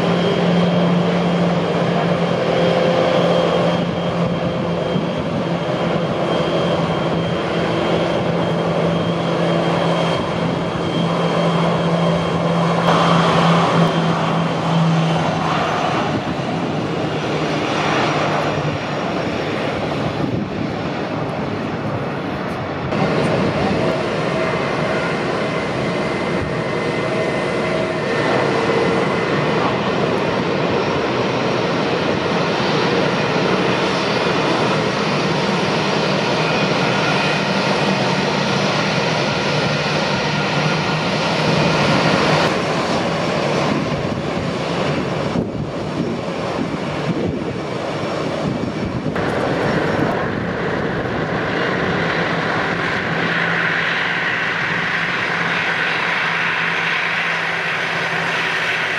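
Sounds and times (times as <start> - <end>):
jet engines taxiing: 0.0 - 58.9.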